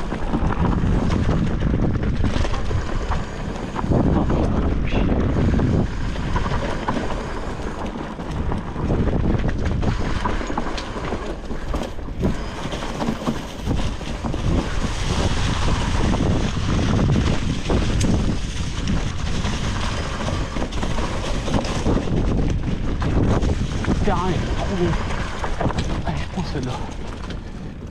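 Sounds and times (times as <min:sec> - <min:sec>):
bike rattling and knocking: 0:00.0 - 0:27.9
tyres rolling over dirt and leaves: 0:00.0 - 0:27.9
wind buffeting microphone: 0:00.0 - 0:27.9.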